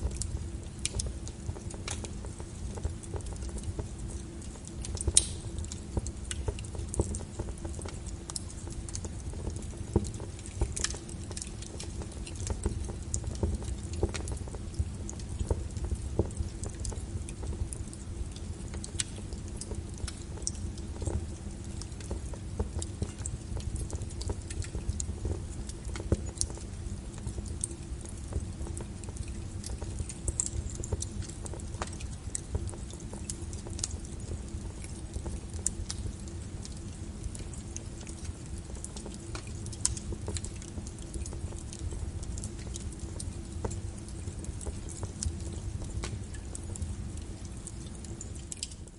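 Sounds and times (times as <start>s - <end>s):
low rumble of burning: 0.0s - 48.9s
wood fire crackling: 0.0s - 48.9s.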